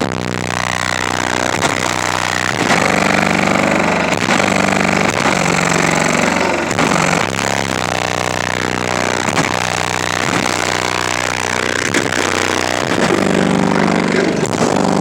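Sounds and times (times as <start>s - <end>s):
loud distorted bass music: 0.0s - 15.0s.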